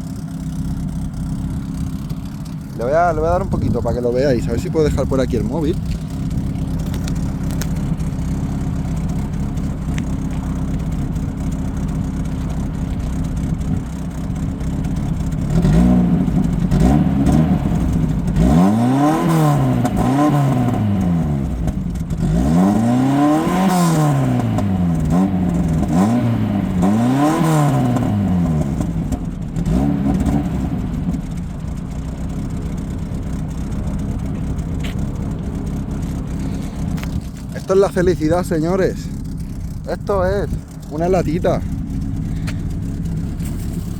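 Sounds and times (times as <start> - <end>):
car engine idling: 0.0 - 43.9
engine revving: 0.0 - 43.9.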